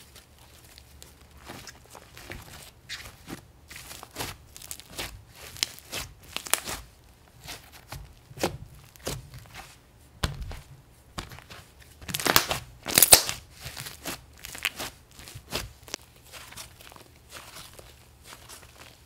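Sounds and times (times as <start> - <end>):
slime squishing and crackling: 0.0 - 19.0.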